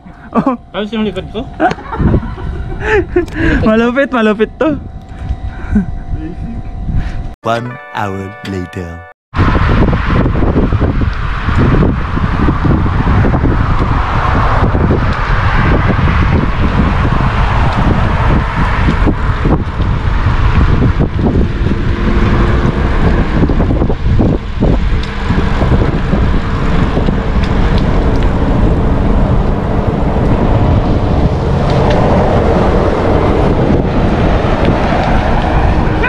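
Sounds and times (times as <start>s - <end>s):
road noise: 0.0s - 7.4s, 9.3s - 36.0s
wind buffeting microphone: 0.0s - 7.4s, 9.3s - 36.0s.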